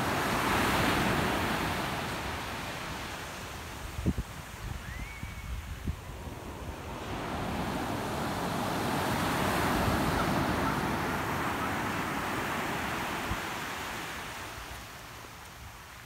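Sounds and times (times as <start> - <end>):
ocean surf on pebbles: 0.0 - 16.0.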